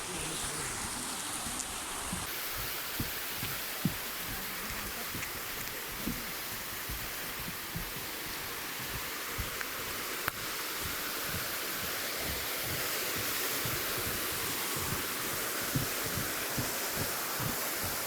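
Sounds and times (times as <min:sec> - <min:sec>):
river rushing: 0:00.0 - 0:18.0
low thumps on microphone: 0:02.1 - 0:18.0.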